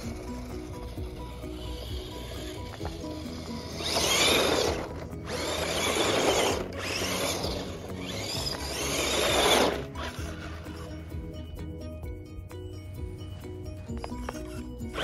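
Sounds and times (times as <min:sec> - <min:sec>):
electric drivetrain whining: 0:00.0 - 0:11.5, 0:13.3 - 0:15.0
background music: 0:00.0 - 0:15.0.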